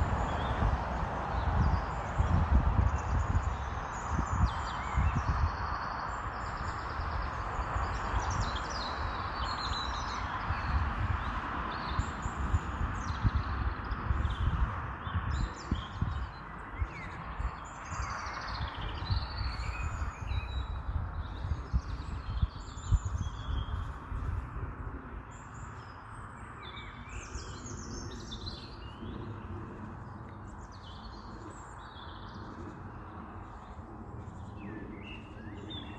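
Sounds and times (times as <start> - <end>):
songbirds chirping and singing: 0.0 - 35.9.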